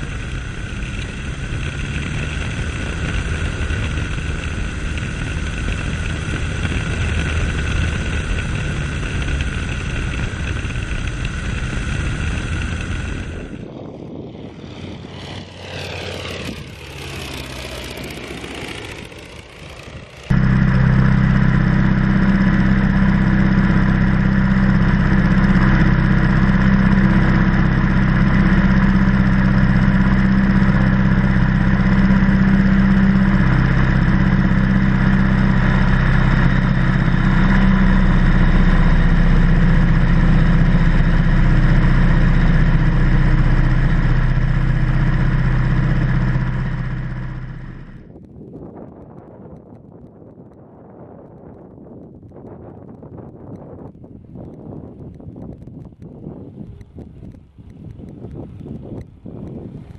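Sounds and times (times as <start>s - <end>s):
radial aircraft engine running: 0.0s - 59.9s.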